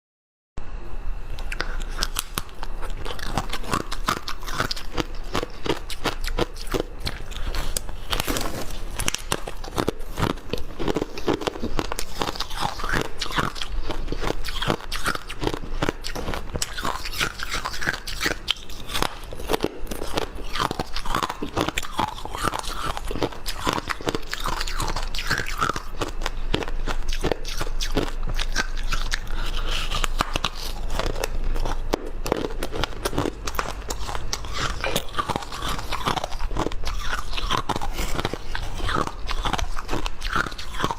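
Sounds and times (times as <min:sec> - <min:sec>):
person chewing crunchy ice: 0:01.4 - 0:40.9.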